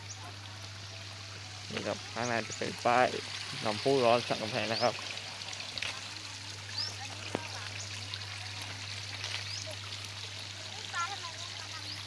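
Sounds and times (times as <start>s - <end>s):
water trickling in channel: 0.0s - 12.0s.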